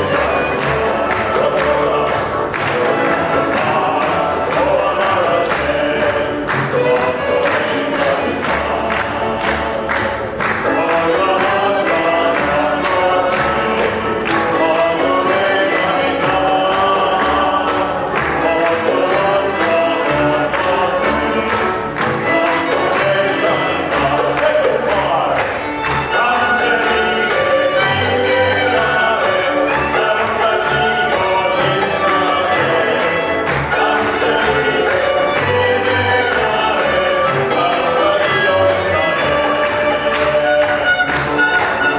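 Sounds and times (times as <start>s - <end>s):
group singing over beat music: 0.0s - 41.9s.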